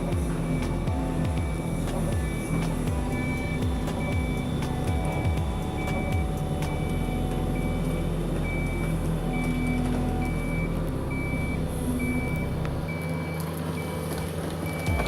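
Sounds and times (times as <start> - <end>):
diesel engine running: 0.0 - 15.0
reversing alarm beeping: 0.0 - 15.0.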